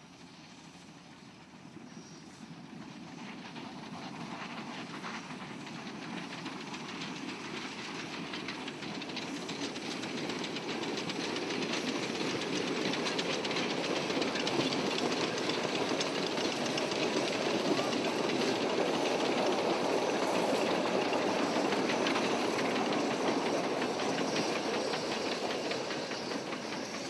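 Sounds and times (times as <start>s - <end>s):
steam hiss: 0.0s - 27.0s
steam locomotive running past: 0.0s - 27.0s.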